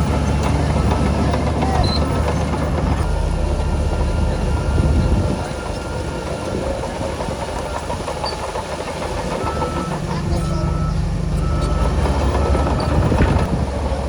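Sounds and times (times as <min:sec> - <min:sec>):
reversing alarm beeping: 0:00.0 - 0:13.5
heavy diesel machinery droning: 0:00.0 - 0:14.0.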